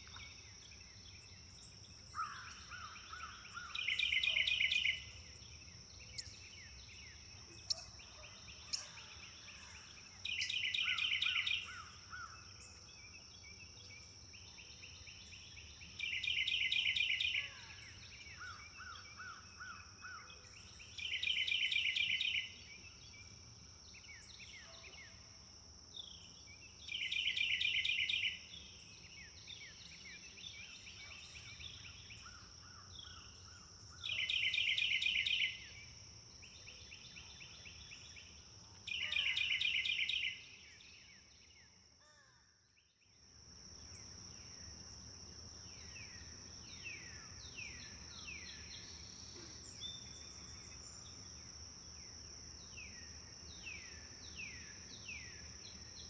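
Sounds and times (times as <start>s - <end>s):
soft bird calls and trills: 0.0s - 25.2s, 25.9s - 43.2s, 43.8s - 56.0s.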